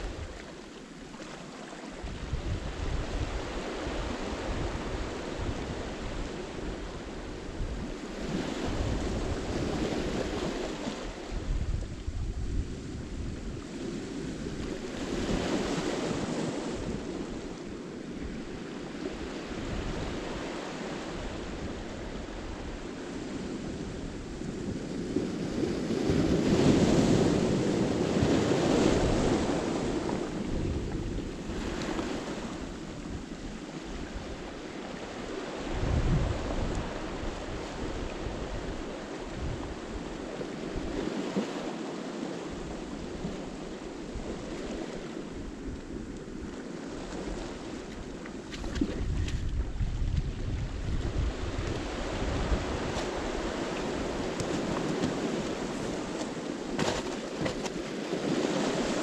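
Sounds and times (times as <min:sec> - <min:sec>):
wind buffeting the microphone: 0:00.0 - 0:00.6, 0:01.9 - 0:59.0
waves breaking on a boulder beach: 0:00.0 - 0:59.0.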